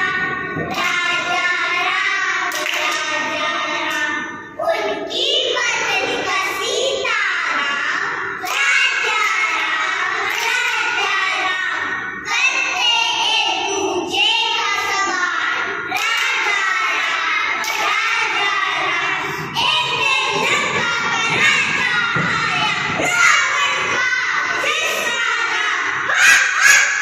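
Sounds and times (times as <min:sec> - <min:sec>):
children singing: 0:00.0 - 0:27.0.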